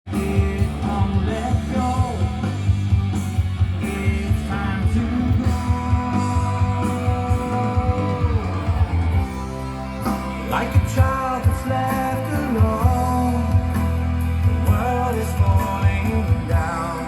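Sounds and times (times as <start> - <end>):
person singing: 0.1 - 3.1, 3.8 - 17.0
heavy bass beat: 0.1 - 17.0
progressive rock over loudspeakers: 0.1 - 17.0.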